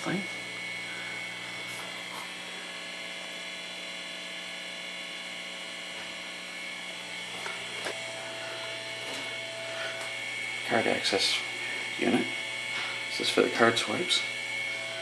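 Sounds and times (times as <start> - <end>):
electrical equipment hum: 0.0 - 15.0
high whine: 0.0 - 15.0.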